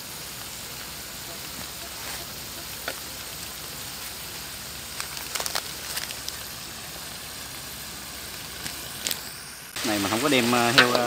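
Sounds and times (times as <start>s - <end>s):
crabs sizzling in a pan: 0.0s - 11.0s
sharp pops and crackles: 0.4s - 6.8s, 7.4s - 9.8s, 10.7s - 11.0s.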